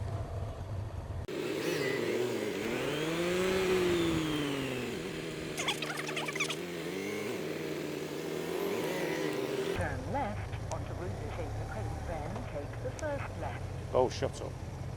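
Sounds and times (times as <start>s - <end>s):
motorcycle engine revving: 1.3s - 14.9s.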